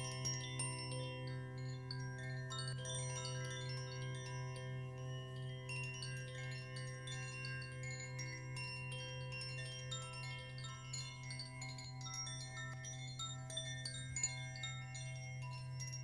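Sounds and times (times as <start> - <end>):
chime-like high notes: 0.0 - 16.0.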